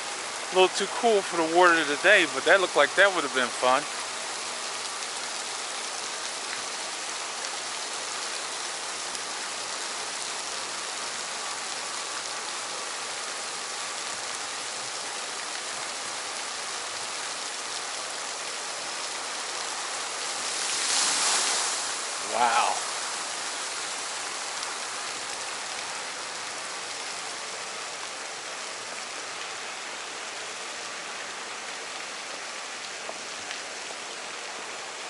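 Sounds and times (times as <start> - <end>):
running water splashing: 0.0 - 34.7.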